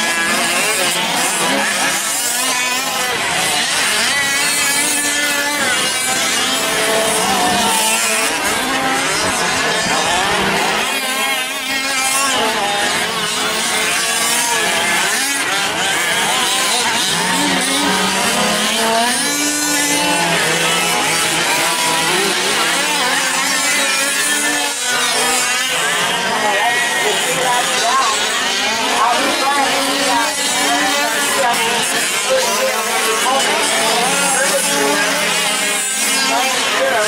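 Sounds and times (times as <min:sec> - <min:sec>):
small two-stroke engines revving: 0:00.0 - 0:37.0.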